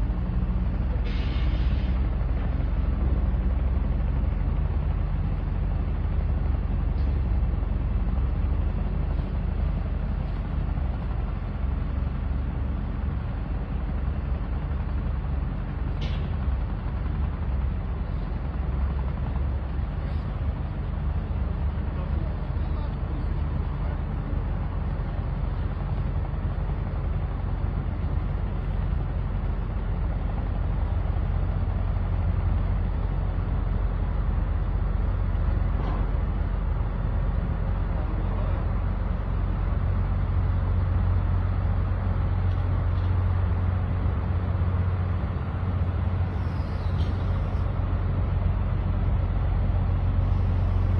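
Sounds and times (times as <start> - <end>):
low engine rumble: 0.0 - 50.9.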